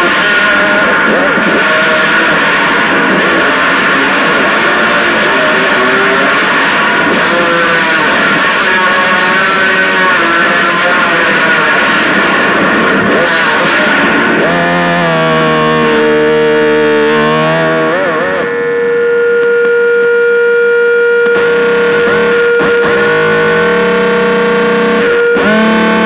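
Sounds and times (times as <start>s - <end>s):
distorted amplified motor drone: 0.0s - 26.0s.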